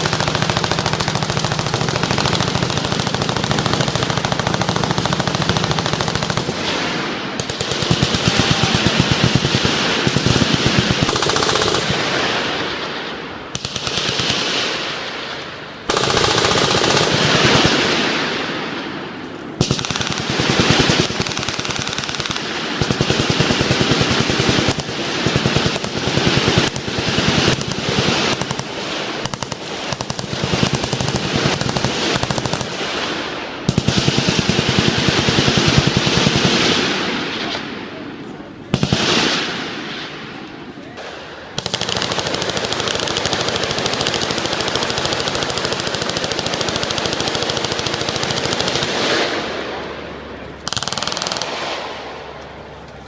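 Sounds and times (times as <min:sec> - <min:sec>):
machine guns firing: 0:00.0 - 0:38.1, 0:38.7 - 0:52.9.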